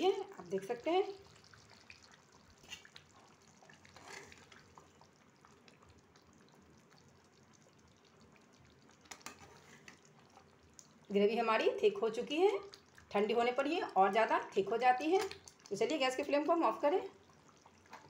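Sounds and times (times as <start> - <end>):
gravy bubbling in pan: 0.0 - 18.0.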